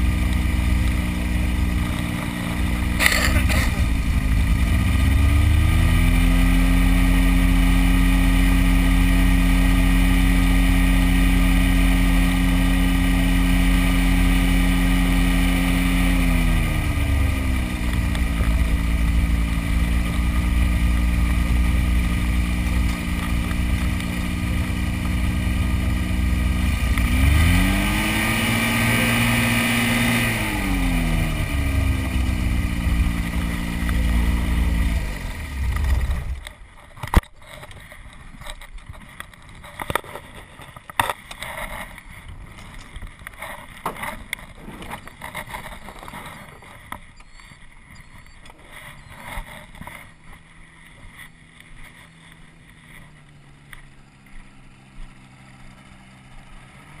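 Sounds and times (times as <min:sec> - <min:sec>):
ultralight aircraft engine revving: 0:00.0 - 0:57.0.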